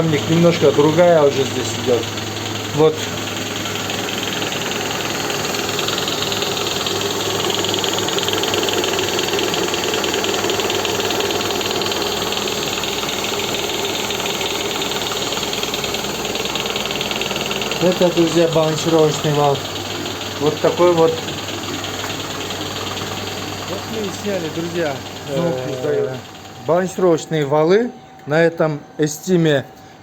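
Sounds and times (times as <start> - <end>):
engine idling with chattering knock: 0.0 - 27.6.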